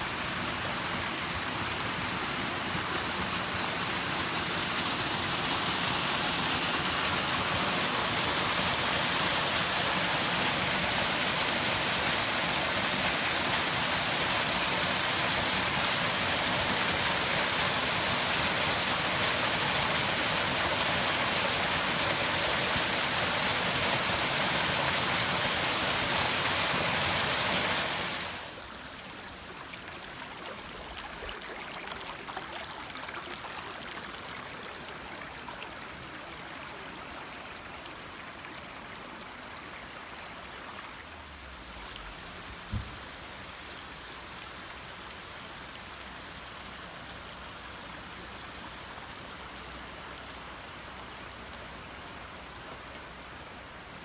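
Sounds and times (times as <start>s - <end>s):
shallow stream running: 0.0s - 54.0s.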